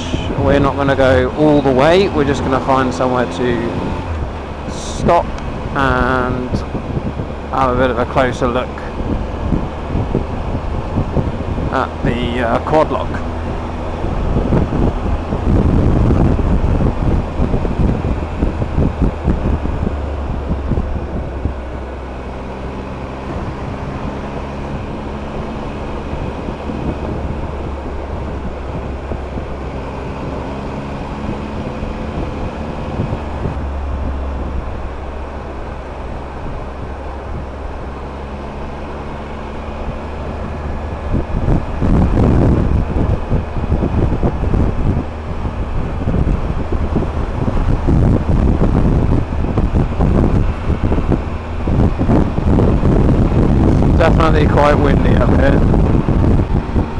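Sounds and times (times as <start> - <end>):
motorcycle engine cruising: 0.0 - 56.9
wind buffeting microphone: 0.0 - 56.9.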